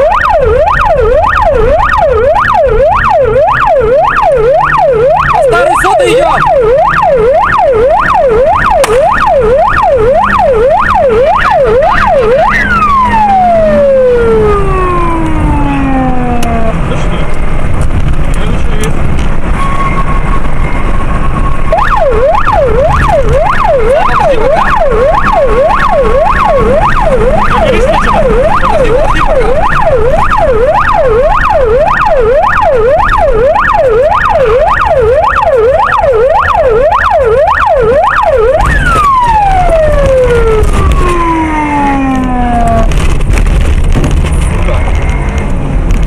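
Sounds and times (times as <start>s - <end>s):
police siren yelping: 0.0s - 16.9s, 20.1s - 43.0s
car engine and road noise: 0.0s - 46.0s.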